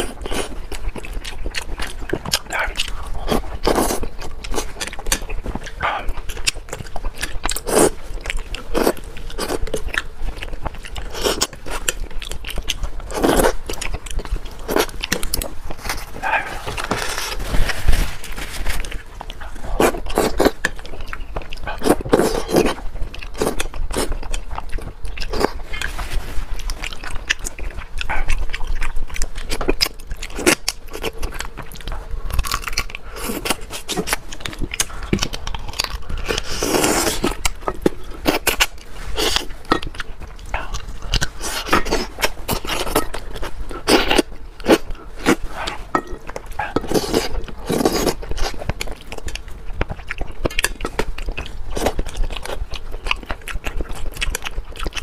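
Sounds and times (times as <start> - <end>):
man chewing and lip smacking: 0.0 - 17.4, 18.8 - 55.0.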